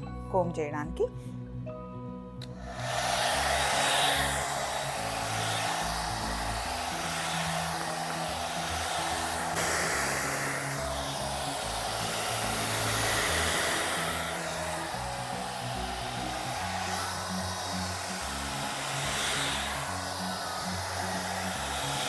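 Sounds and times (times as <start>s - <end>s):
background music: 0.0s - 22.0s
hair dryer blowing air: 2.4s - 22.0s.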